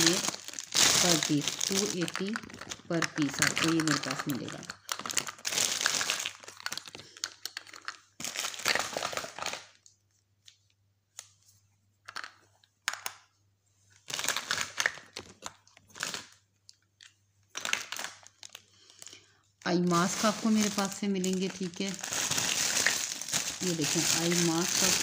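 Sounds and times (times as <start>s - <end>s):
plastic packaging crinkling: 0.0s - 9.9s, 13.9s - 25.0s.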